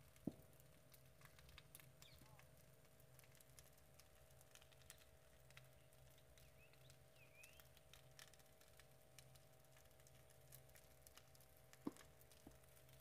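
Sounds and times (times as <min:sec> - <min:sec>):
open fire crackling and popping: 0:00.0 - 0:13.0.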